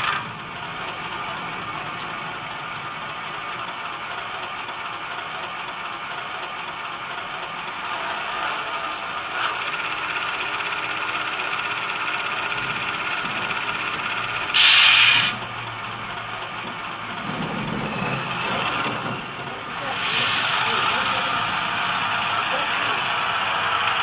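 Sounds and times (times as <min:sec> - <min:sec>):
model locomotive engine sound: 0:00.0 - 0:24.0.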